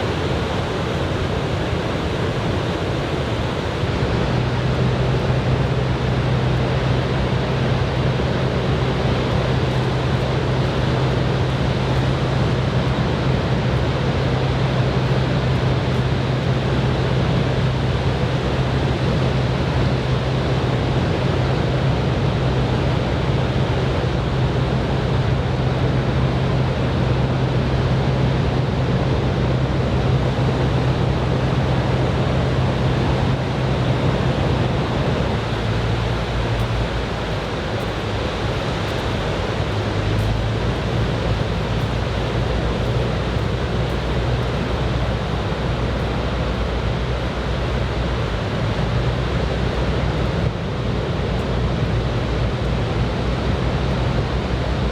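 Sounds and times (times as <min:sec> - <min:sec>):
waves breaking: 0:00.0 - 0:27.9, 0:30.0 - 0:54.9
low hum: 0:00.0 - 0:54.9.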